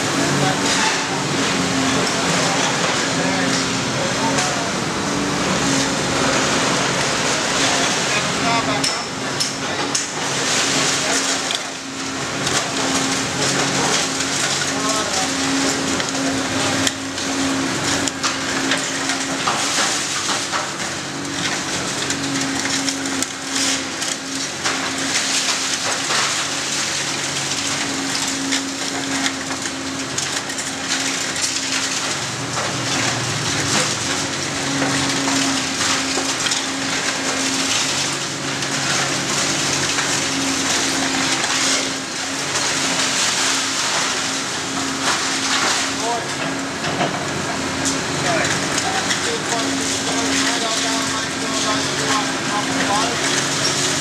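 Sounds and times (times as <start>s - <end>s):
concrete and metal crunching: 0.0s - 54.0s
excavator engine hum: 0.0s - 54.0s.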